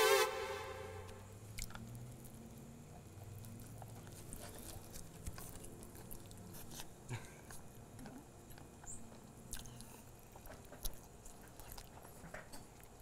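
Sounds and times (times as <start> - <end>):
person chewing food: 1.4 - 13.0.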